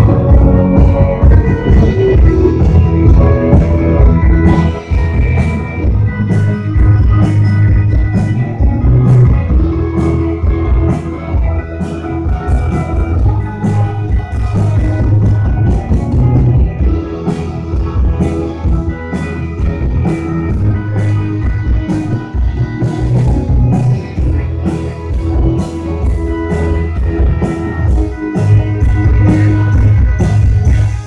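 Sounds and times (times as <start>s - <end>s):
bass guitar: 0.0s - 31.0s
drum kit beat: 0.0s - 31.0s
electric guitars: 0.0s - 31.0s.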